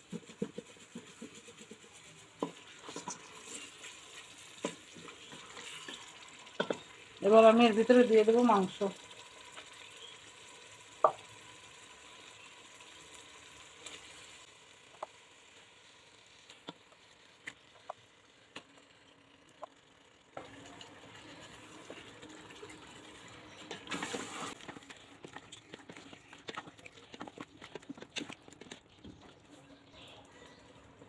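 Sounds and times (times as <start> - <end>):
meat being stirred: 0.0 - 19.6, 20.4 - 31.0
meat sizzling in a pot: 0.0 - 27.6.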